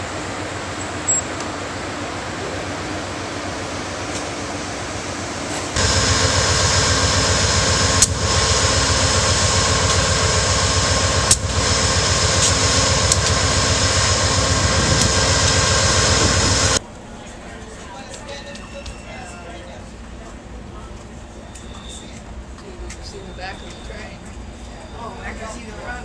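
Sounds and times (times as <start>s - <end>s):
diesel locomotive idling: 0.0s - 26.0s
whining blowers and fans: 0.0s - 26.0s.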